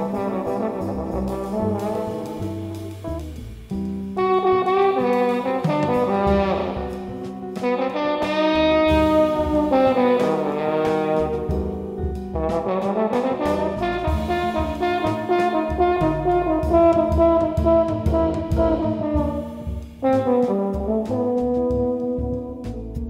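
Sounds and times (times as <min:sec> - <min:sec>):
double bass: 0:00.0 - 0:23.0
drums: 0:00.0 - 0:23.0
trombone playing jazz: 0:00.0 - 0:23.0.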